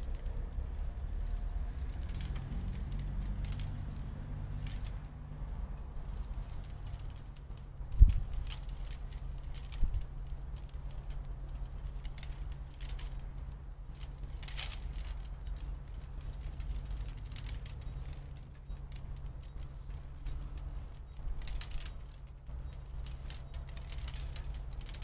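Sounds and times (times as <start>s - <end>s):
faint clicks and rustles: 0.0s - 25.0s
wind rumbling on microphone: 0.0s - 25.0s.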